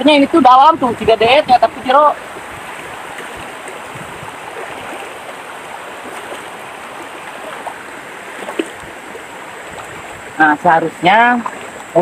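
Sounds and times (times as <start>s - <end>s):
river water running over stones: 0.0s - 12.0s.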